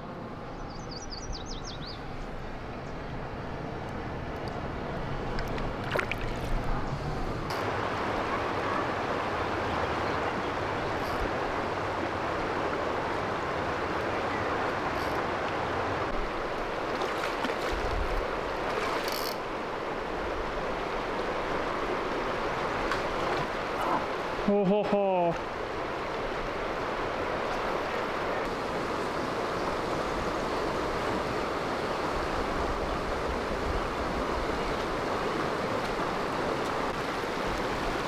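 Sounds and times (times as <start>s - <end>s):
creek water rushing: 0.0s - 38.0s.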